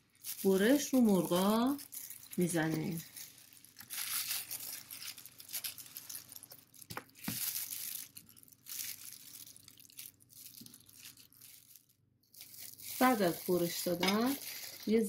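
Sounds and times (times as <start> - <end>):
plastic glove crinkling: 0.0 - 15.0.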